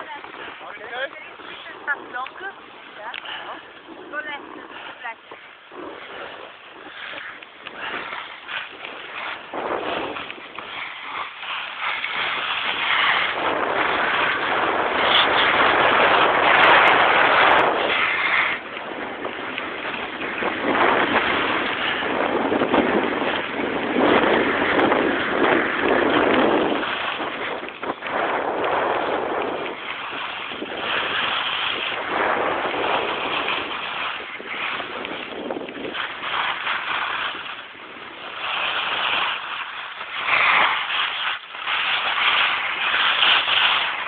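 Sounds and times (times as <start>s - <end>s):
ski edges scraping over snow: 0.0s - 44.0s
wind rushing over microphone: 0.0s - 44.0s.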